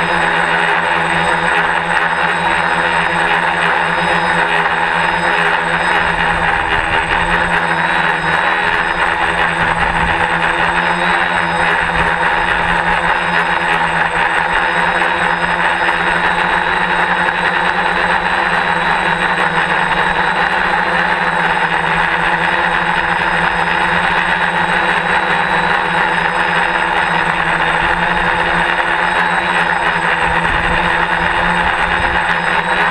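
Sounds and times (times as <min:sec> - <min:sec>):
quadcopter motors droning: 0:00.0 - 0:32.9.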